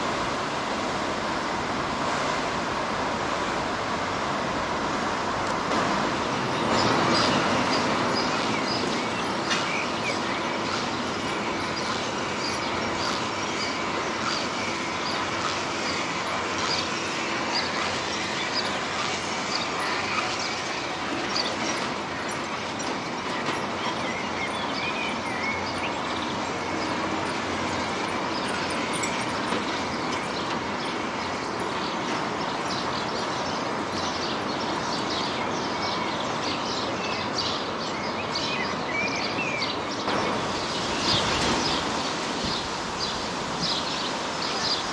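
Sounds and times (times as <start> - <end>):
cable car mechanical hum: 0.0 - 44.9.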